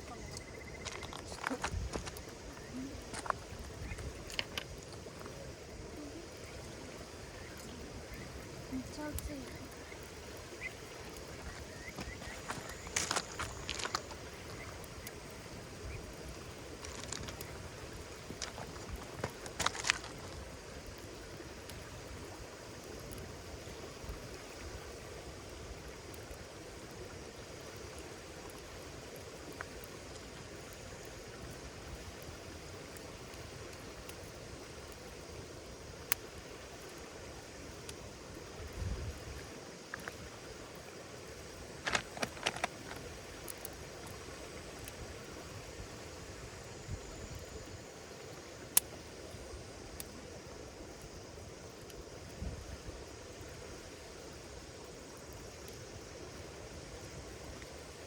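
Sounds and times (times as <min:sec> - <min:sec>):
campfire crackling: 0:00.0 - 0:58.0
wood fire hissing: 0:00.0 - 0:58.0.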